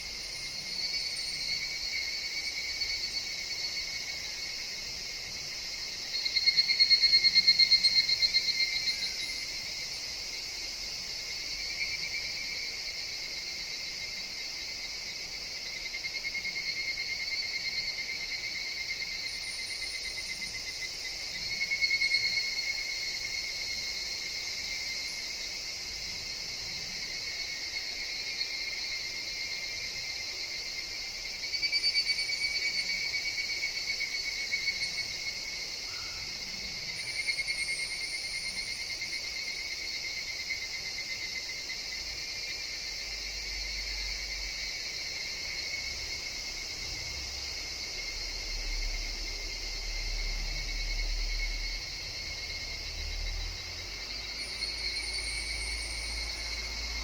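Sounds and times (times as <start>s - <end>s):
evening cicadas calling: 0.0s - 57.0s
high-pitched insect trills: 0.0s - 57.0s.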